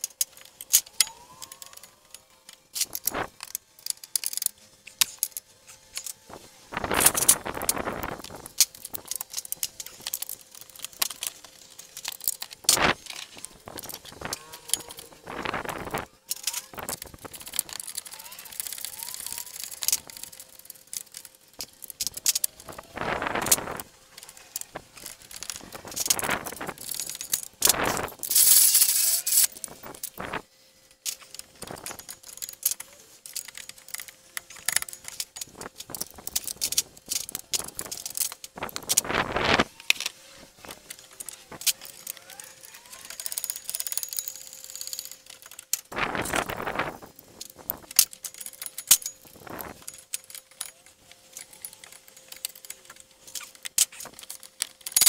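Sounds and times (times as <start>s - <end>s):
faint steady hum: 0.0s - 55.0s
metal tools and parts clinking: 0.0s - 55.0s.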